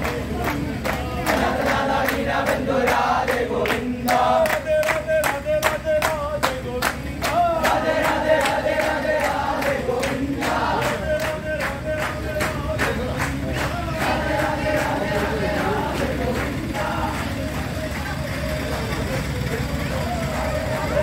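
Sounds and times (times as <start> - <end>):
hand-clapping beat: 0.0 - 21.0
men chanting in unison: 0.0 - 21.0.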